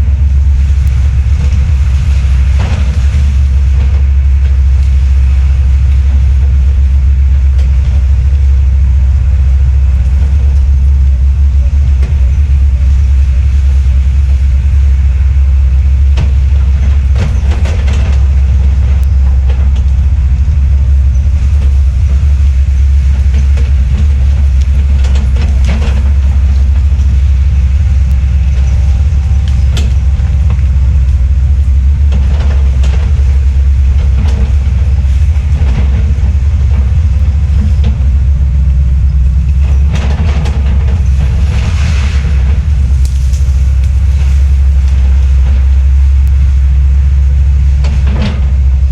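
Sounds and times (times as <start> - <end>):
diesel engine drone: 0.0 - 48.9
mulcher shredding wood: 0.0 - 48.9.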